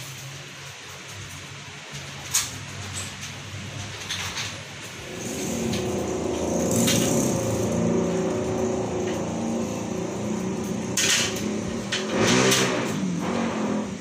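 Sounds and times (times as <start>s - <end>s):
vehicle engine running: 0.4s - 14.0s.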